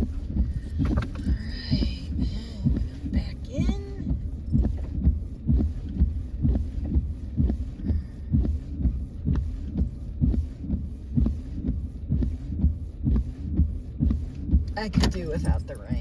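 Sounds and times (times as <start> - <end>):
low hum: 0.0 - 16.0
windshield wipers thumping: 0.0 - 16.0.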